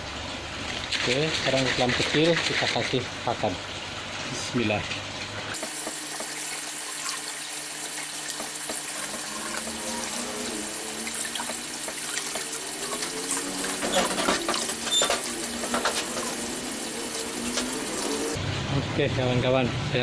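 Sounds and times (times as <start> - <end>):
water trickling and splashing: 0.0 - 18.4.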